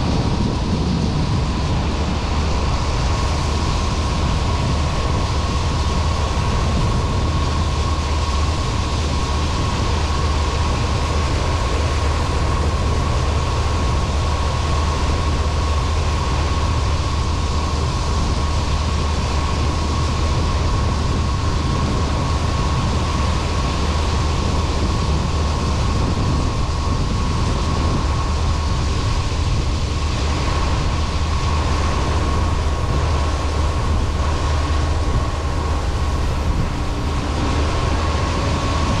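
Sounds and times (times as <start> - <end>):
combine harvester diesel drone: 0.0 - 39.0
high machinery whine: 0.0 - 39.0.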